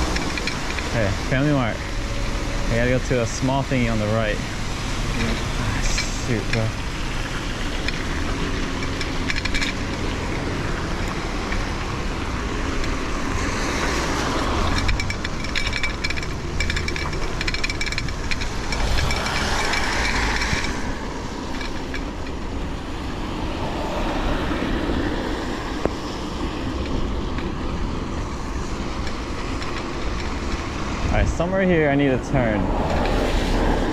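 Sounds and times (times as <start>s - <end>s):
bicycle rattling: 0.0s - 33.9s
road noise: 0.0s - 33.9s
wind rumble on microphone: 0.0s - 33.9s.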